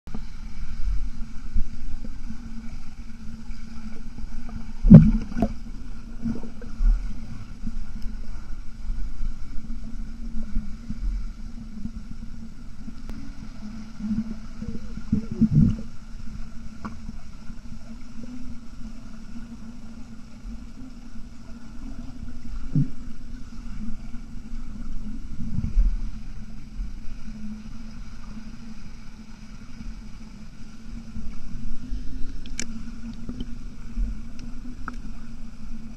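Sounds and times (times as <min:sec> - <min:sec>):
underwater churning water rumble: 0:00.1 - 0:35.9.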